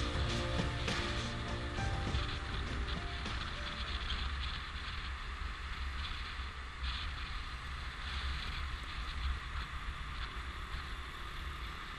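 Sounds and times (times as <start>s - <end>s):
road noise rushing: 0.0s - 11.9s
wind rumbling on microphone: 0.0s - 11.9s.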